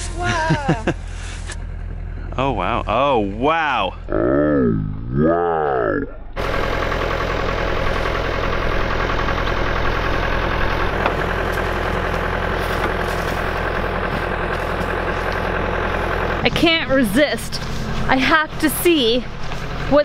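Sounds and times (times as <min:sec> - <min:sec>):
vehicle engine idling: 0:00.0 - 0:04.2, 0:05.7 - 0:20.0.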